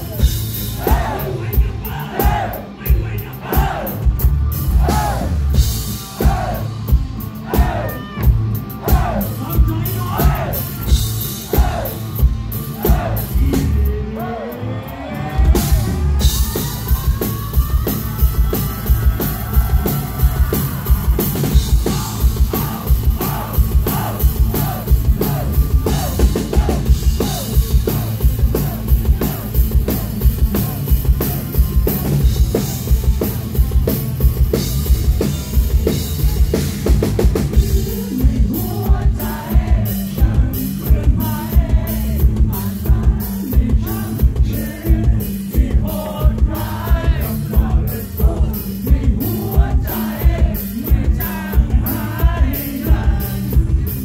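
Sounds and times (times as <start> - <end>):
drum kit beat: 0.0 - 14.1, 15.2 - 54.0
live rock band playing: 0.0 - 54.0.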